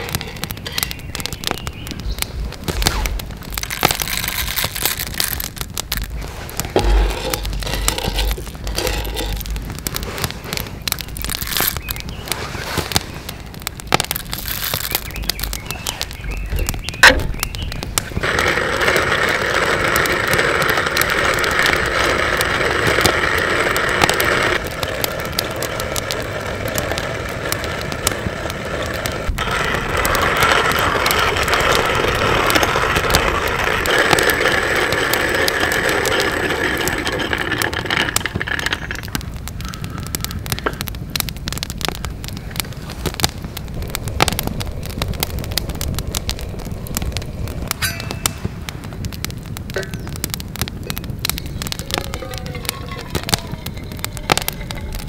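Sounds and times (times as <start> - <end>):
hand coffee mill grinding beans: 0.0 - 48.4, 51.3 - 55.0.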